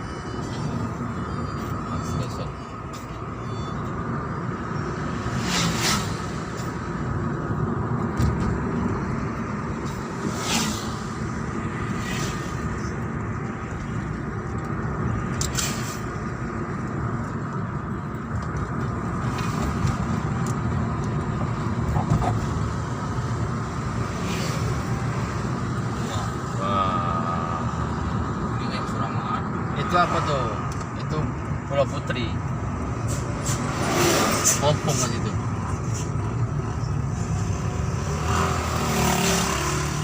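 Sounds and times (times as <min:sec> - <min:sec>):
vehicle road and engine noise: 0:00.0 - 0:40.0.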